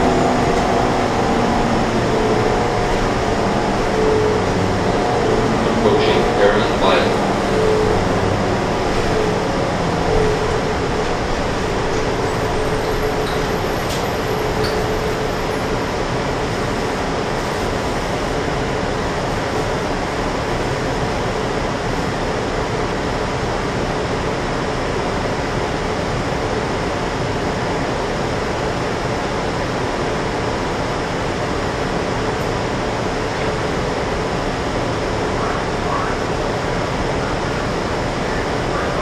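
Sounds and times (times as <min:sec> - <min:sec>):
bus engine idling: 0:00.0 - 0:39.0.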